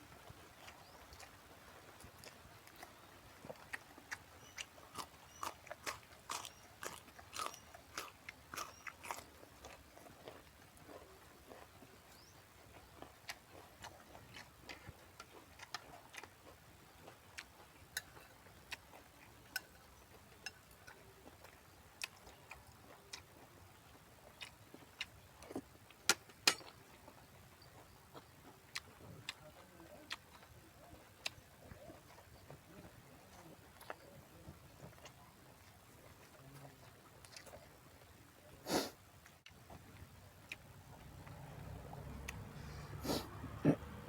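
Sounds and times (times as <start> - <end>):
person chewing close to microphone: 0.1 - 44.0.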